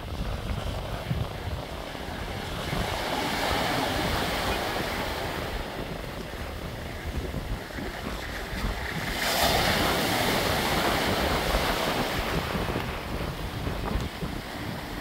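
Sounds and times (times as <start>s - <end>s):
waves breaking on rocky shore: 0.0s - 15.0s.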